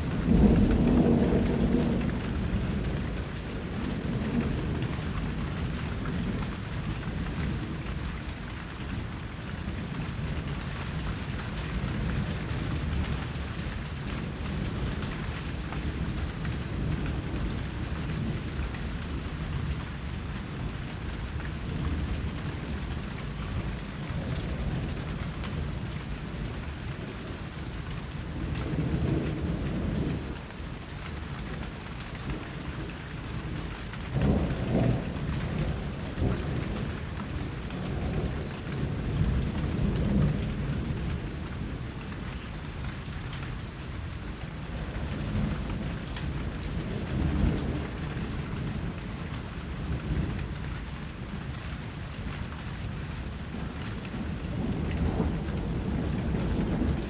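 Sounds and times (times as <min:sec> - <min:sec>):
rumbling thunder: 0:00.0 - 0:08.2, 0:09.6 - 0:27.6, 0:28.2 - 0:42.8, 0:43.6 - 0:51.3, 0:53.0 - 0:57.0
heavy rain: 0:00.0 - 0:57.0.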